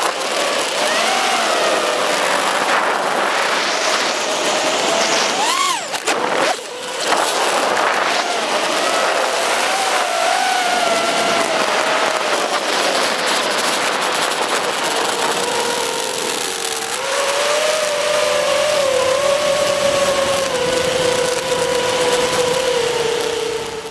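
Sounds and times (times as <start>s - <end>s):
drone motors whining: 0.0s - 23.9s
steady rushing hiss: 0.0s - 23.9s.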